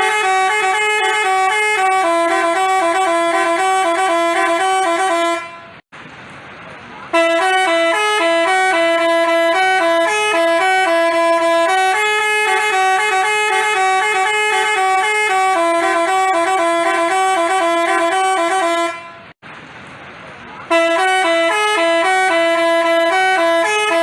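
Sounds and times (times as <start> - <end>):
bus horn playing a tune: 0.0 - 5.8, 7.1 - 19.4, 20.7 - 24.0.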